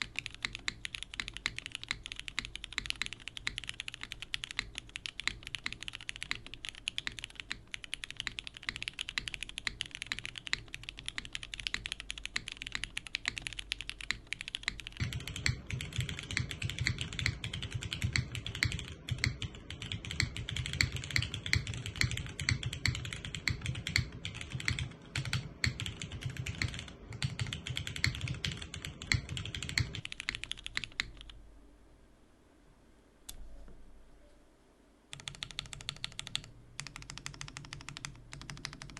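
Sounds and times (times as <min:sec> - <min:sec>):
fast mechanical keyboard typing: 0:00.0 - 0:31.4, 0:35.1 - 0:38.9.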